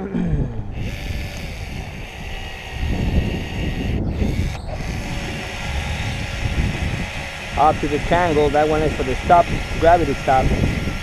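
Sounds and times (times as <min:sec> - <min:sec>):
wind buffeting microphone: 0:00.3 - 0:11.0.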